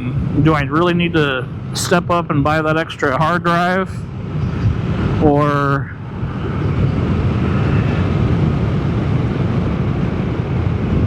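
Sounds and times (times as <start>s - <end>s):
wind rushing: 1.5s - 11.0s.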